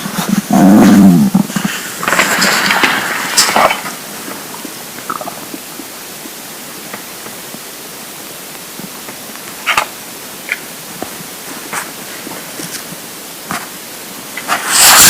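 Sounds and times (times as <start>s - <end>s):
stomach gurgling: 0.0s - 13.8s
steady hiss: 0.0s - 15.0s.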